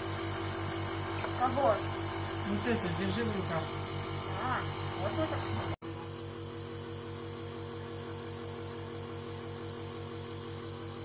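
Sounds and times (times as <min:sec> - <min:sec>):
nebulizer pump humming: 0:00.0 - 0:11.0.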